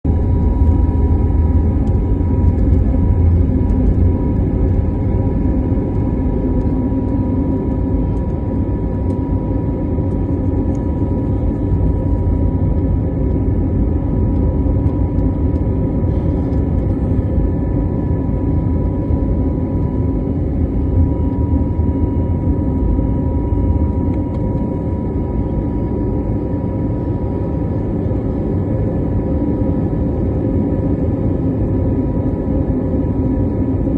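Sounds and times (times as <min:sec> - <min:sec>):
aeroplane engine rumble: 0:00.0 - 0:33.9
thin steady whine: 0:00.1 - 0:33.9.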